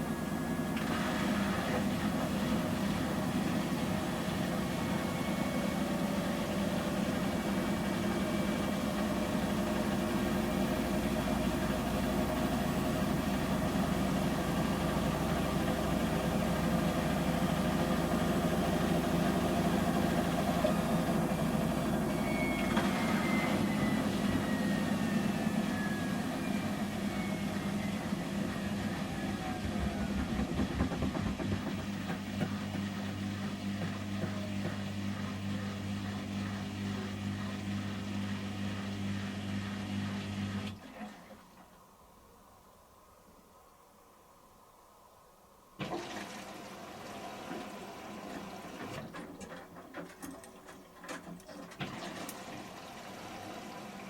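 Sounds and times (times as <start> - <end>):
washing machine spinning: 0.0 - 41.5, 45.8 - 54.0.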